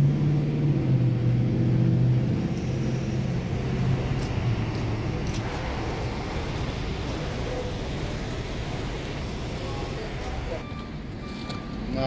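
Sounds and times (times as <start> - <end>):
traffic noise: 0.0 - 12.0
vehicle engine hum: 0.0 - 12.0.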